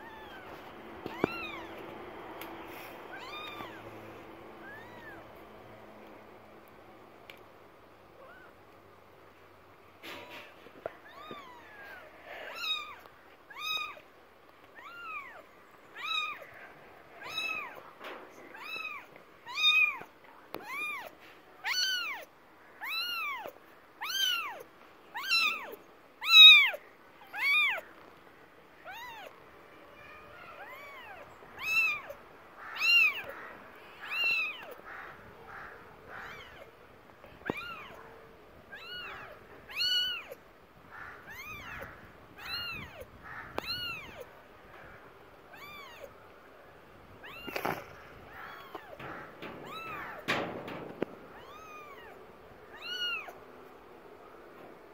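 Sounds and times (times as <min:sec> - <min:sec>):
kittens meowing: 0:00.0 - 0:01.8, 0:03.1 - 0:05.5, 0:08.2 - 0:08.6, 0:10.1 - 0:14.0, 0:14.8 - 0:27.9, 0:28.8 - 0:29.4, 0:30.2 - 0:40.4, 0:41.1 - 0:46.2, 0:47.1 - 0:53.4.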